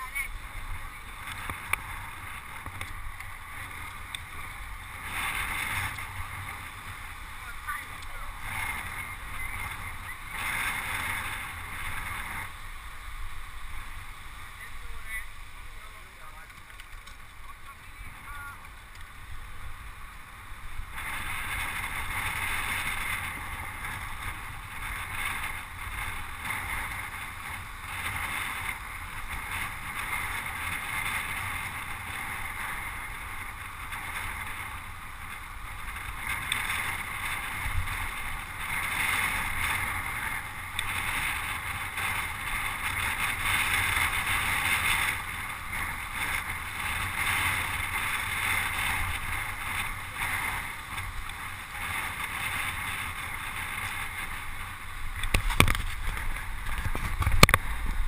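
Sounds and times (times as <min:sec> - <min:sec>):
bicycle tyre and road noise: 0:00.0 - 0:58.0
wind rushing over microphone: 0:00.0 - 0:58.0.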